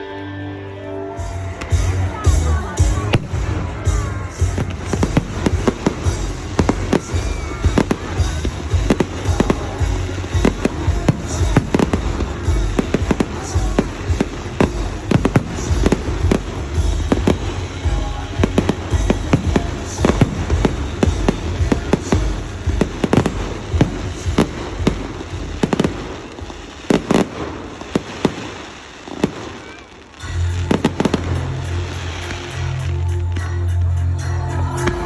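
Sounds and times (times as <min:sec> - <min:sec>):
fireworks banging and crackling: 0:01.1 - 0:35.0.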